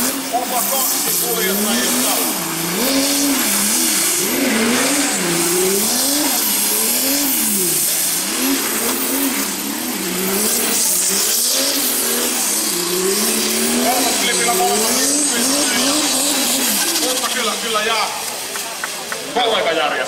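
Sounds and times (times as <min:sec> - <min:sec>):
car engine revving: 0:00.0 - 0:19.4
tyres hissing on wet track: 0:00.1 - 0:19.8.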